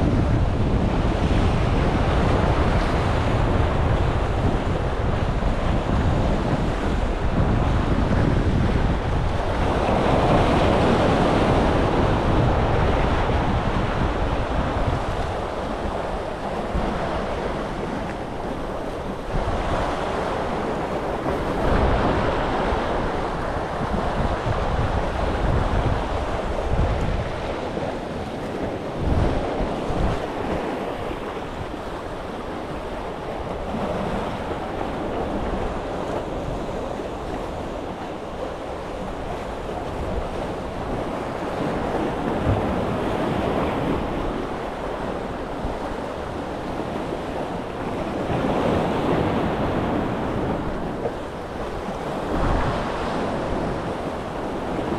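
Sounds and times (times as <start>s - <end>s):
sea waves breaking: 0.0s - 54.9s
wind buffeting microphone: 0.0s - 54.9s.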